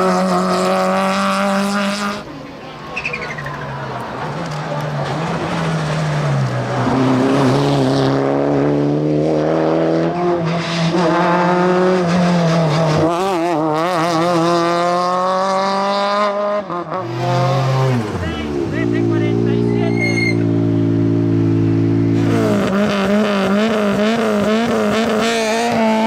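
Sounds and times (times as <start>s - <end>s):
rally car engine revving: 0.0s - 2.3s, 3.0s - 26.0s.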